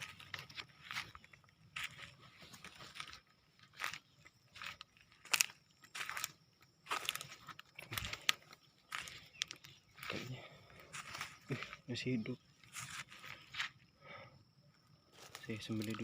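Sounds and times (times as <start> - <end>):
footsteps crunching through dry leaves: 0.0 - 13.8, 15.1 - 16.0.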